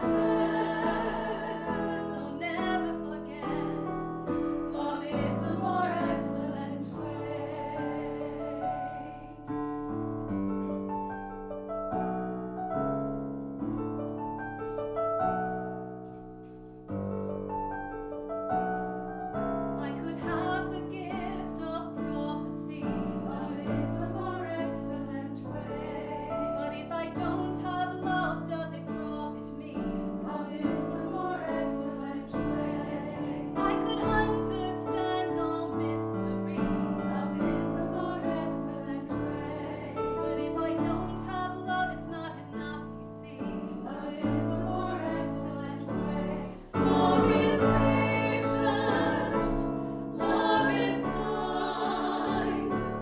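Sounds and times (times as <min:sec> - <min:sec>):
person singing a hymn: 0:00.0 - 0:09.4, 0:19.8 - 0:53.0
piano accompaniment: 0:00.0 - 0:53.0.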